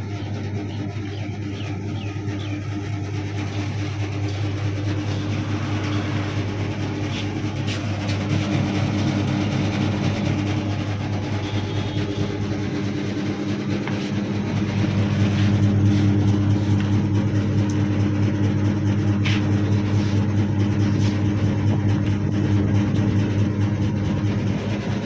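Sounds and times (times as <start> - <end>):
electric motor humming: 2.9 - 25.0.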